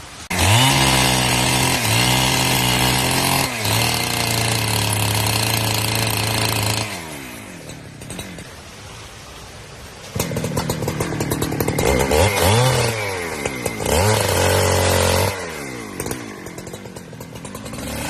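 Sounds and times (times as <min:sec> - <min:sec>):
chainsaw revving: 0:00.2 - 0:08.6, 0:10.1 - 0:18.0.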